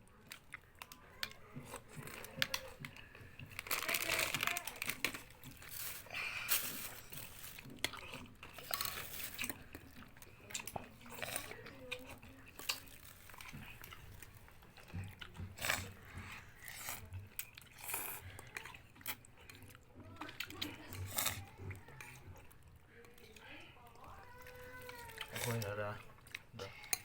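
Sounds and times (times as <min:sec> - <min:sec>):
person chewing crunchy food: 0:00.1 - 0:23.5, 0:24.1 - 0:27.0.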